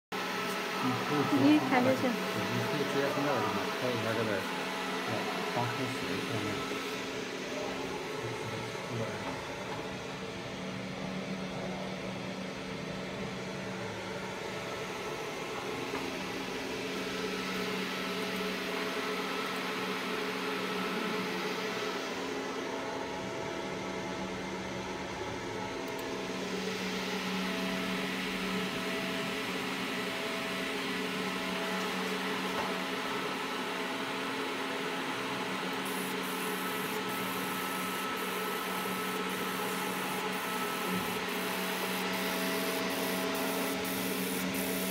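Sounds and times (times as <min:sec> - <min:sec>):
cooling fans humming: 0:00.1 - 0:44.9.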